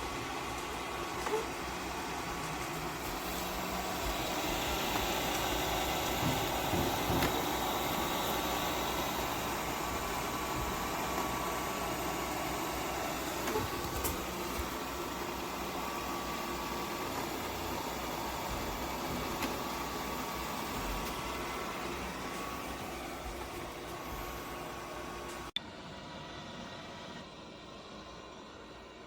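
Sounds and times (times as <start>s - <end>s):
machine whirring: 0.0s - 25.6s.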